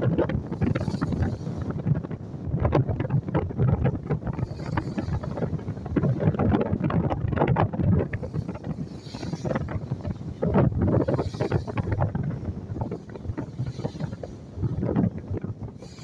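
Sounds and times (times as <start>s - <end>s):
water rushing along boat hull: 0.0s - 16.0s
wind buffeting microphone: 0.0s - 16.0s.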